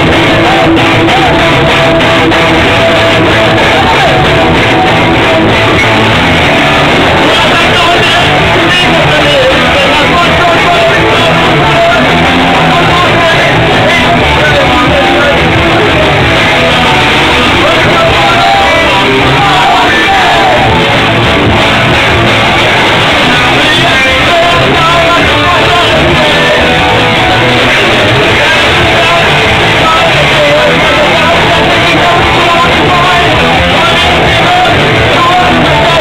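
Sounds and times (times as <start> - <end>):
punk rock band playing live: 0.0 - 36.0.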